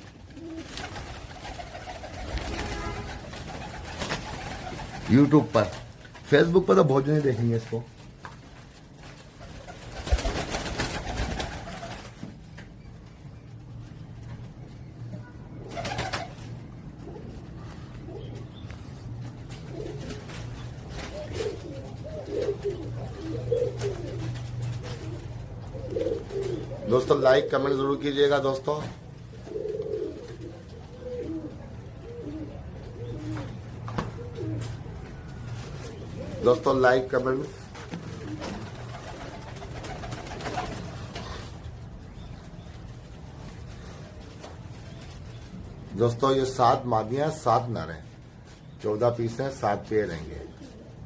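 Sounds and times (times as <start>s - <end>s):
pigeons cooing: 0.0s - 7.5s, 14.4s - 47.7s, 48.4s - 51.0s.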